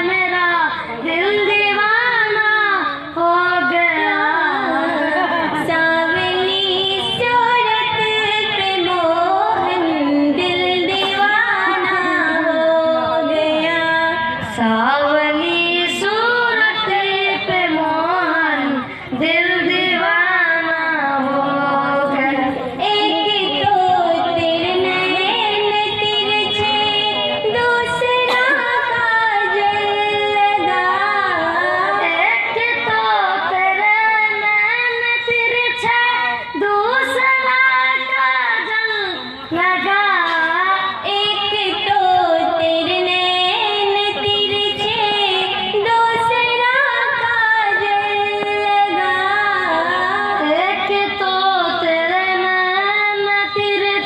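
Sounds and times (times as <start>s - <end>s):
woman singing into a microphone: 0.0s - 54.0s.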